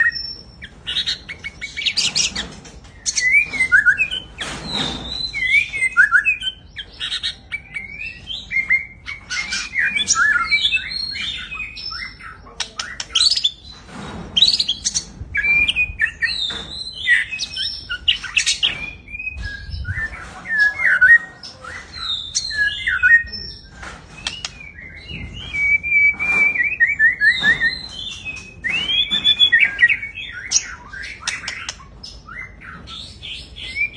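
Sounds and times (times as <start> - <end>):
songbird singing whistles and trills: 0.0 - 13.8, 14.4 - 33.9.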